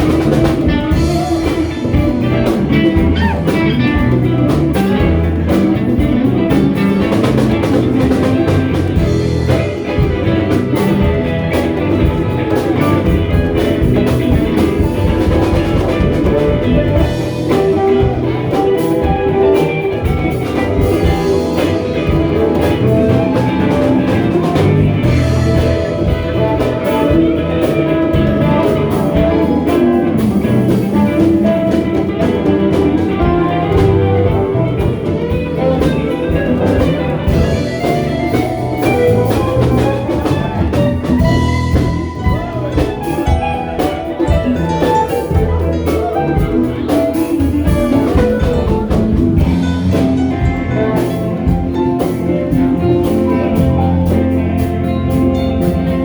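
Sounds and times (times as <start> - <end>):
band playing instrumental: 0.0 - 56.0.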